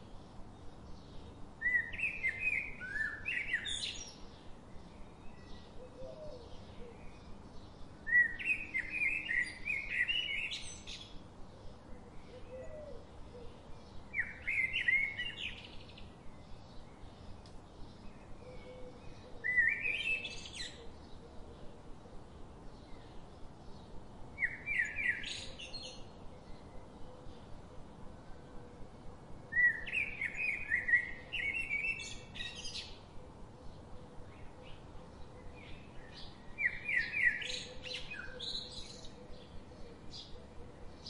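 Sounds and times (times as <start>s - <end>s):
faint background noise: 0.0s - 41.0s
songbird singing: 0.0s - 41.0s.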